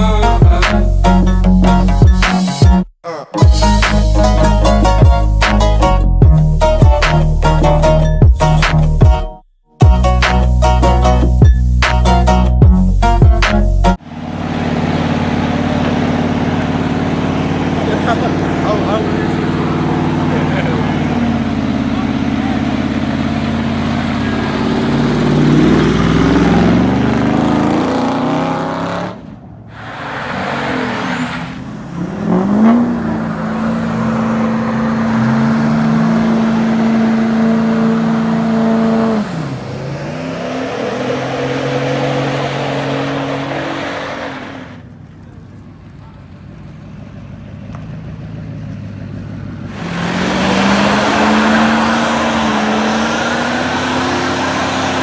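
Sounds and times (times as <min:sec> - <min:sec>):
truck engines accelerating: 0:10.2 - 0:55.0.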